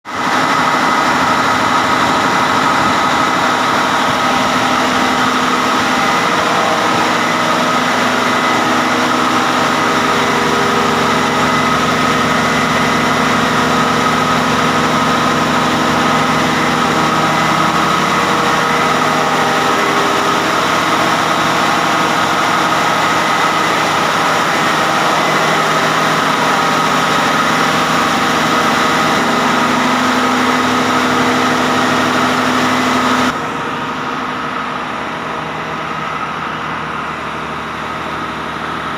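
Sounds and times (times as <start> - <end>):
diesel engine idling: 0.1 - 38.9.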